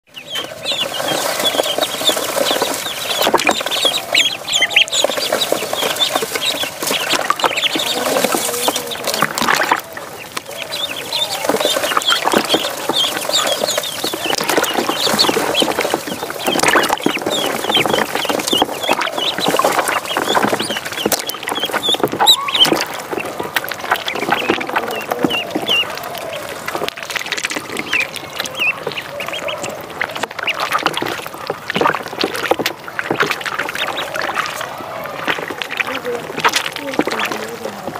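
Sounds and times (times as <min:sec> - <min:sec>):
ducklings peeping: 0:00.0 - 0:37.9
water splashing in a tub: 0:00.1 - 0:37.9.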